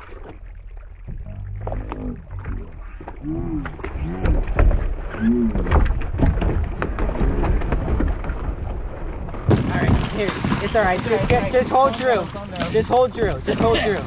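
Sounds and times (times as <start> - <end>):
splashes and hull knocks: 0.0 - 14.0
heavy low rumble: 0.1 - 11.9.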